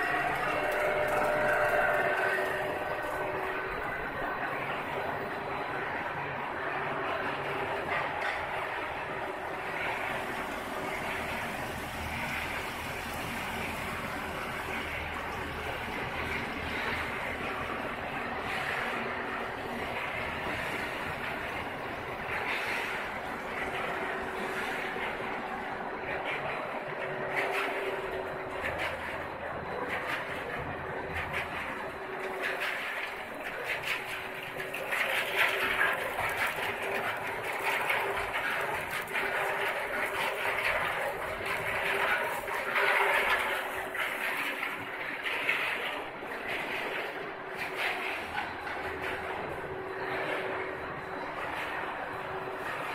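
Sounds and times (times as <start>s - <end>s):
fryer machine humming and hissing: 0.0s - 52.9s.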